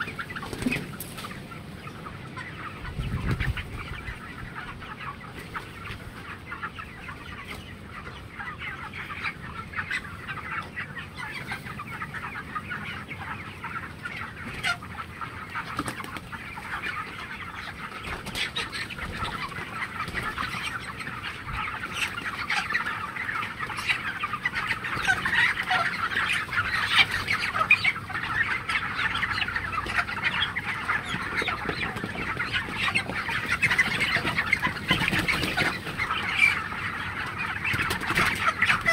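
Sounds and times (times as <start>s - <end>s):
chickens clucking and chattering: 0.0s - 38.9s.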